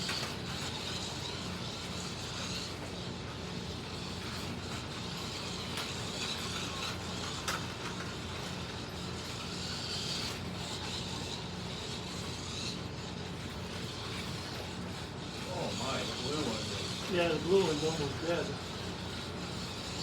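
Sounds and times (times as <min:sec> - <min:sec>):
slot car motors whining: 0:00.0 - 0:20.0
tyres running over track: 0:00.1 - 0:20.0.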